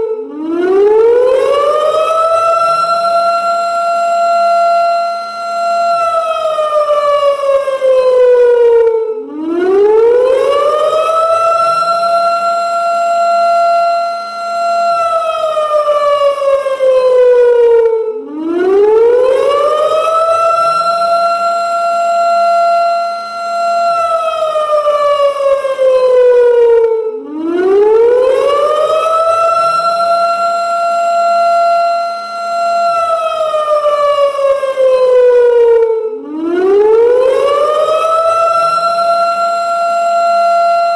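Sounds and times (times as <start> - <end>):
warning siren tone: 0.0 - 40.9.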